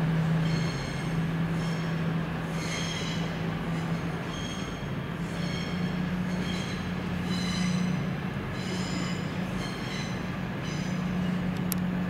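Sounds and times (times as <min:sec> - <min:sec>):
train diesel engine drone: 0:00.0 - 0:12.0
short high-pitched squeals: 0:00.4 - 0:11.5.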